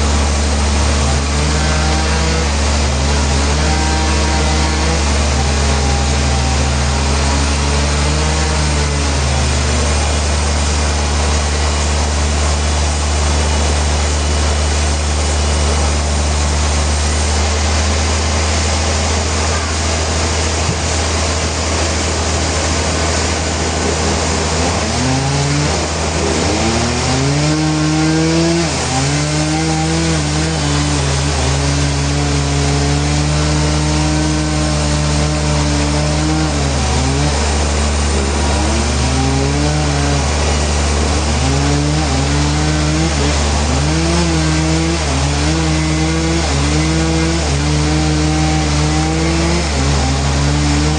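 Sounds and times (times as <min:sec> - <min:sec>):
sawmill saw cutting log: 0:00.0 - 0:50.9.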